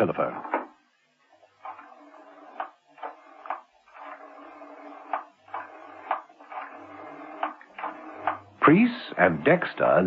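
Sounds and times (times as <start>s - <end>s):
steady background sound: 0.0s - 10.0s.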